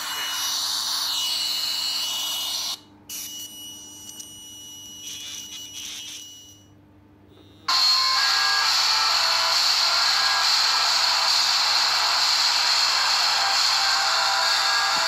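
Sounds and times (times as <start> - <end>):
distorted ringtone: 0.0 - 6.7, 7.7 - 15.0.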